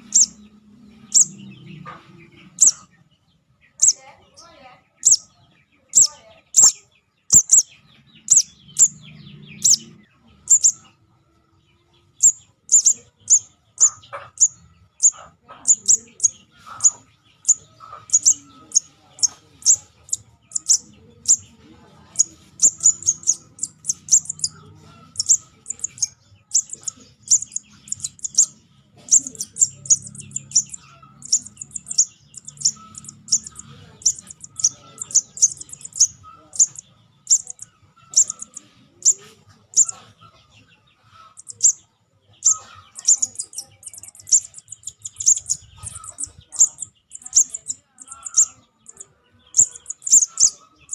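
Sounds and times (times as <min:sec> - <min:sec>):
young bird chirping rapidly: 0:00.0 - 0:11.0, 0:12.0 - 0:50.9.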